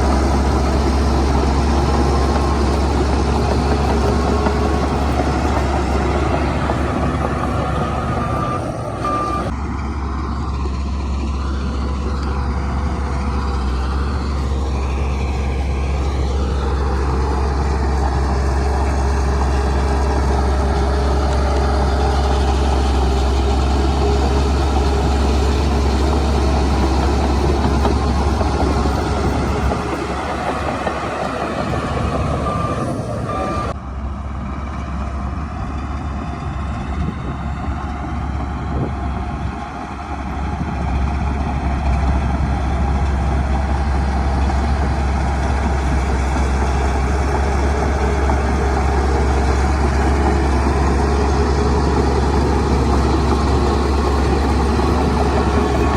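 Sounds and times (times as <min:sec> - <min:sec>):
diesel machinery engine rumble: 0:00.0 - 0:55.9.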